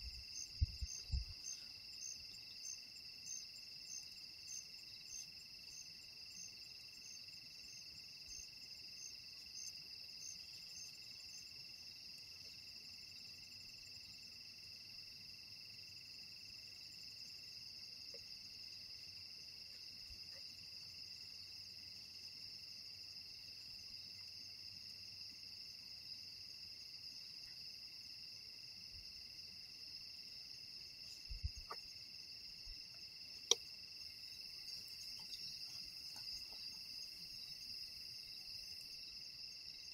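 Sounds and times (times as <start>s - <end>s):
night insects droning: 0.0s - 39.9s.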